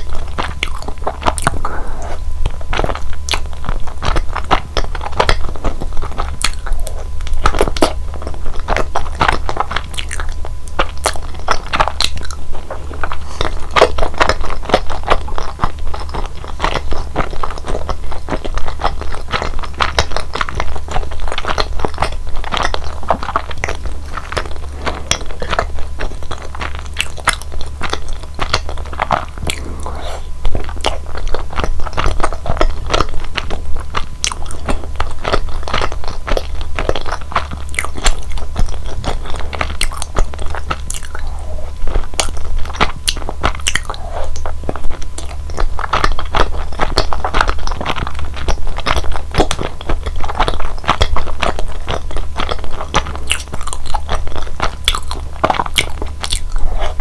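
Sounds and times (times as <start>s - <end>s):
wet mouth clicks: 0.0s - 5.5s, 6.1s - 8.0s, 8.6s - 12.4s, 21.4s - 57.0s
chewing sticky dumplings: 0.0s - 57.0s.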